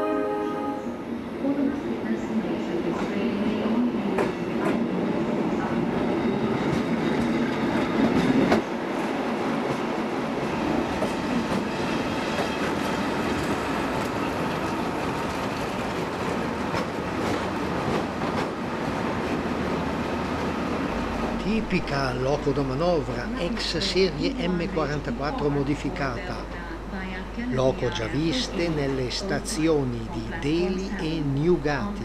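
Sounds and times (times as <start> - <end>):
train wheels and engine rumbling: 1.0 - 32.0.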